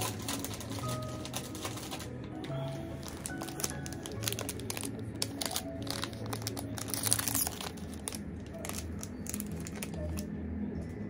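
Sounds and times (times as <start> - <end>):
crinkling and clicking: 0.0 - 11.0
quiet background music: 0.0 - 11.0.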